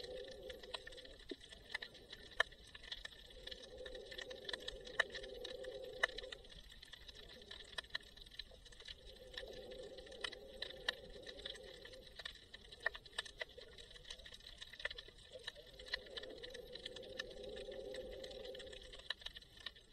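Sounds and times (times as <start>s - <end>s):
faint steady hum: 0.0s - 19.9s
underwater clicks and crackles: 0.0s - 19.9s.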